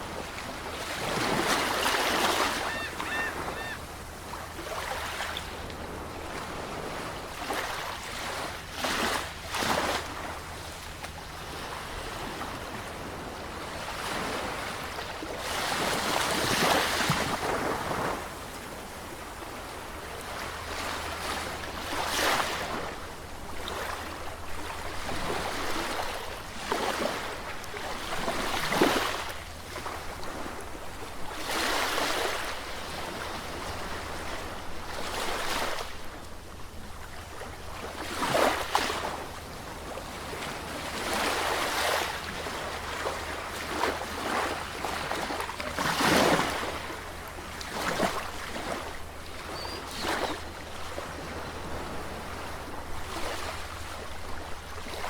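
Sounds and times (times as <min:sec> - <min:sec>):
sea waves breaking: 0:00.0 - 0:36.1, 0:37.0 - 0:55.0.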